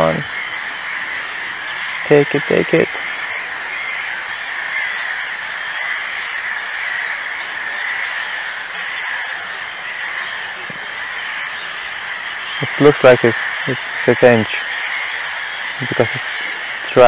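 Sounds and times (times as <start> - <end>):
chorus of animal calls: 0.0 - 17.0.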